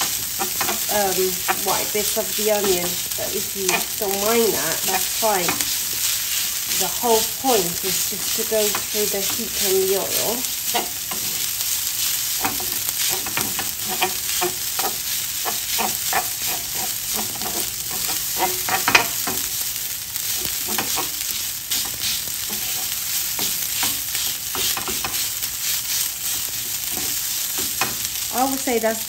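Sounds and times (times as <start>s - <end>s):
spatula scraping and tapping pan: 0.0s - 28.4s
rice sizzling in hot oil: 0.0s - 29.0s.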